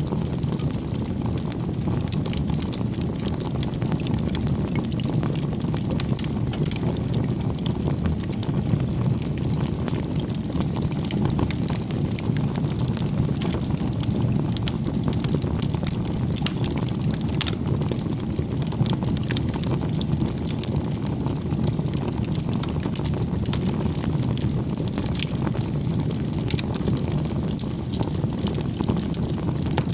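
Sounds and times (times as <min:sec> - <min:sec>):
campfire crackling: 0:00.1 - 0:29.9.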